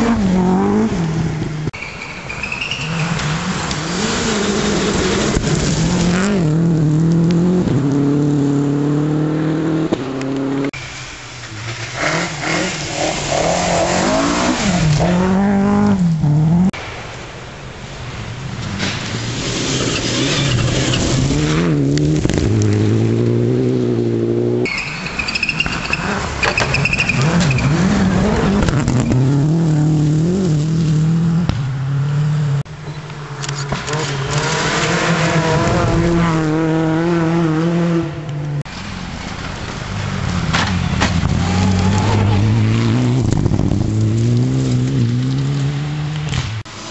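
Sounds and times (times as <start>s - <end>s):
rally car engines revving: 0.0s - 16.8s, 18.6s - 46.9s.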